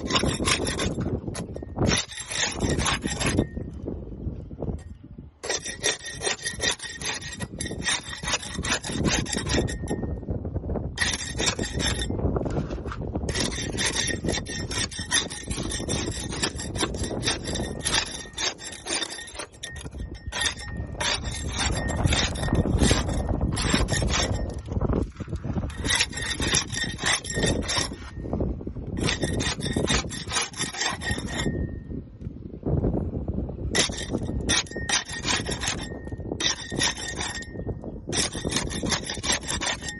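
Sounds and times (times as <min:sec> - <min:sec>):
scraping barnacles off boat hull: 0:00.0 - 0:03.8, 0:05.4 - 0:10.3, 0:11.0 - 0:31.8, 0:33.7 - 0:39.9.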